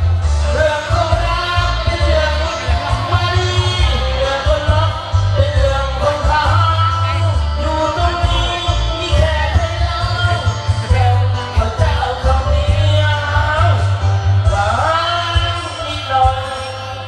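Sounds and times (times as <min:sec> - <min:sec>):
heavy pulsing bass beat: 0:00.0 - 0:16.4
dance music with singing: 0:00.0 - 0:17.0.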